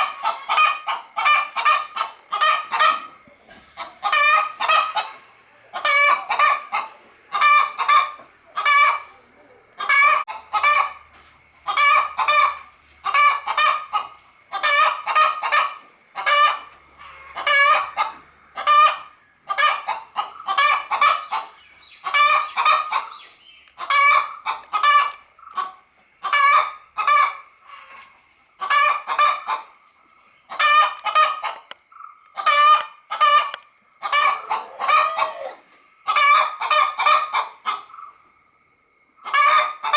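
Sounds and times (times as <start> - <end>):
hen clucking: 0.0 - 38.2, 39.1 - 39.9.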